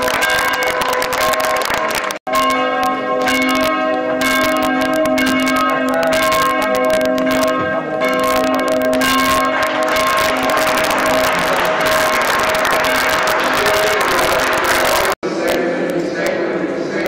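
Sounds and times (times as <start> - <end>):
church bells ringing: 0.0 - 15.2.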